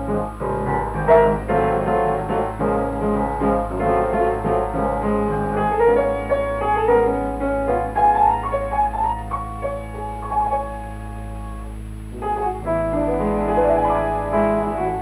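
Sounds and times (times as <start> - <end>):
lively piano music: 0.0 - 15.0
steady low hum: 0.0 - 15.0.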